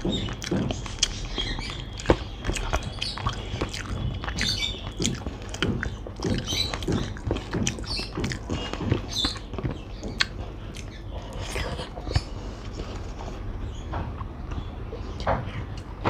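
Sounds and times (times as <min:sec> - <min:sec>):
chewing: 0:00.0 - 0:13.5.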